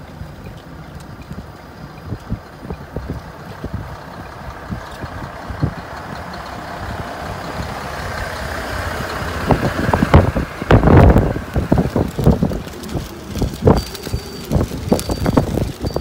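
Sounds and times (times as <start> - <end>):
blizzard wind blowing hard: 0.0 - 16.0
wind gusts buffeting microphone: 0.0 - 16.0.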